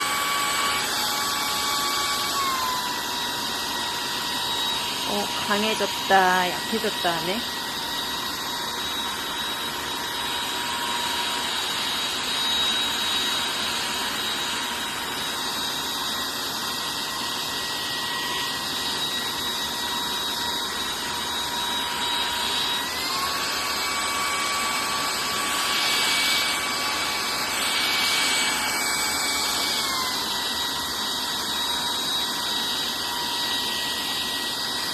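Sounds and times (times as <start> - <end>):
stick vacuum running on carpet: 0.0 - 34.9.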